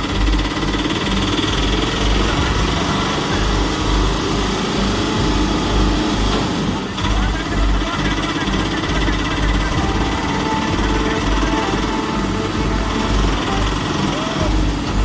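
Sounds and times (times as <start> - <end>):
auto-rickshaw engine running: 0.0 - 15.0.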